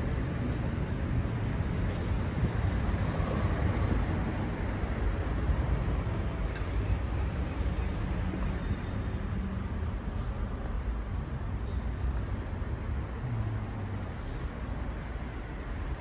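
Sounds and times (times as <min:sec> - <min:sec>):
low rumble of passing cars: 0:00.0 - 0:16.0.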